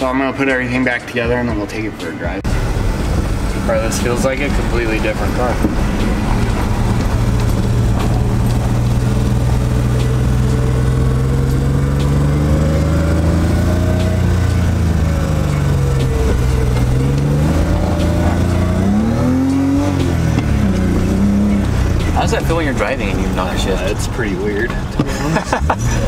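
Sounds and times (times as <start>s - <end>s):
car engine revving: 0.0s - 26.0s
road noise: 0.0s - 26.0s.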